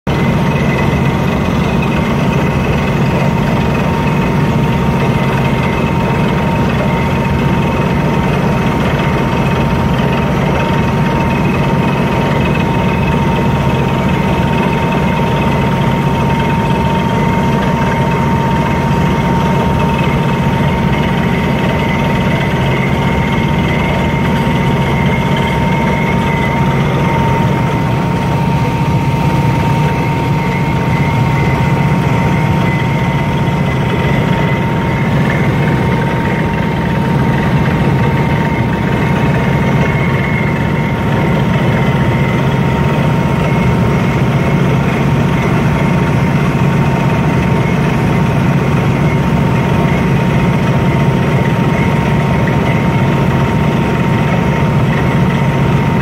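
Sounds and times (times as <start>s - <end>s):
drilling rig engine drone: 0.1s - 56.0s
high whine: 0.1s - 56.0s.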